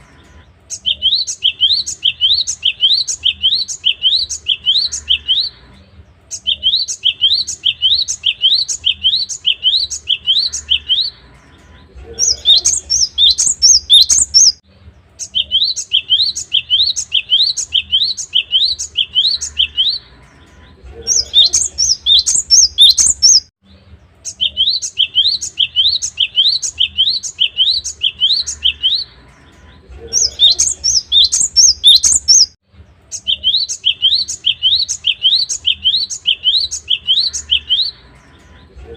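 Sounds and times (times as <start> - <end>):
bird singing whistled notes: 0.0 - 5.6, 6.3 - 11.2, 12.2 - 14.6, 15.2 - 23.5, 24.2 - 38.5.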